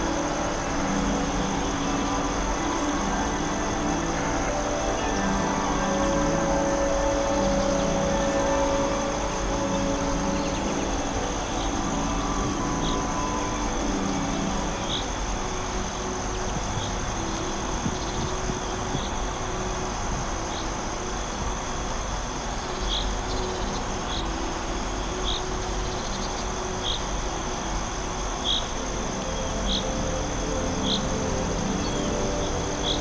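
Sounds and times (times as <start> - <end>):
insect chirps: 0.0 - 33.0
insect high trill: 0.0 - 33.0
steady rushing background: 0.0 - 33.0.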